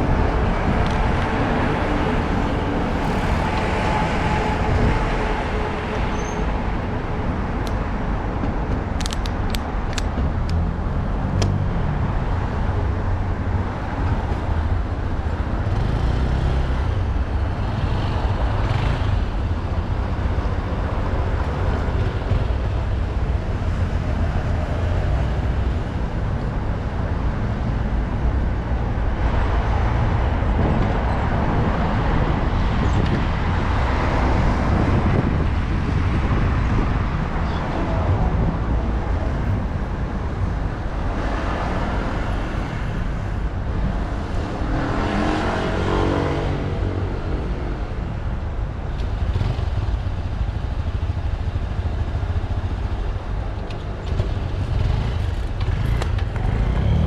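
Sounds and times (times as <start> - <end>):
cars passing: 0.0 - 8.9, 9.5 - 57.0
wind rumbling on microphone: 0.0 - 57.0.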